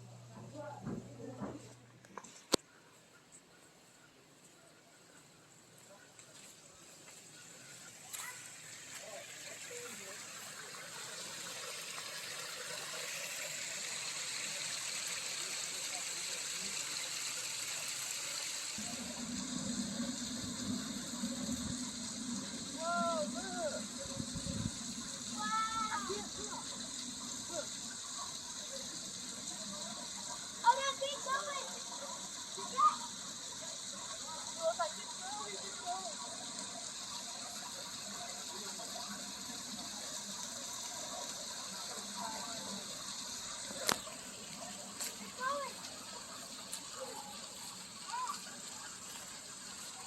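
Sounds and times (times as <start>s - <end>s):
water rushing: 6.7s - 50.0s.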